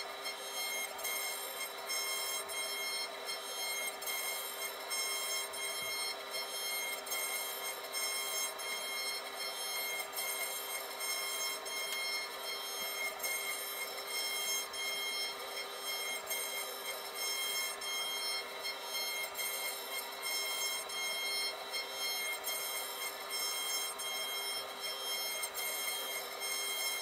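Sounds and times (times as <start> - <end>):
router spindle whining: 0.0 - 27.0.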